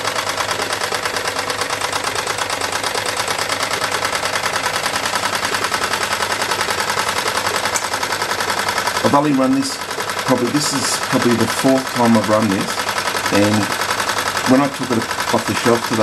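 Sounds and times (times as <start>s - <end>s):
model steam engine chuffing: 0.0s - 16.0s.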